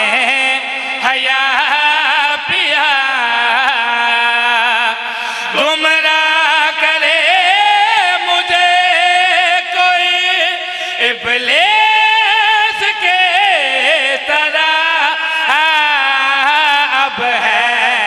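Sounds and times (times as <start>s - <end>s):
man chanting: 0.0s - 18.0s.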